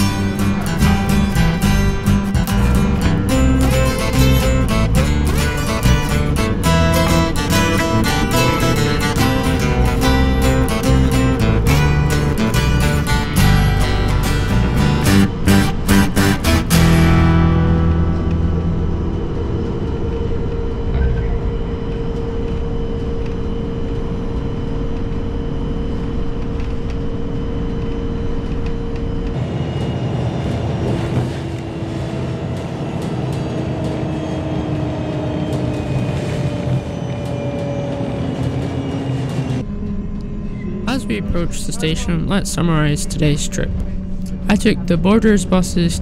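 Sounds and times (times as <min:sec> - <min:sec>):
bus engine and road noise: 0:00.0 - 0:46.0
steady whine: 0:00.0 - 0:46.0.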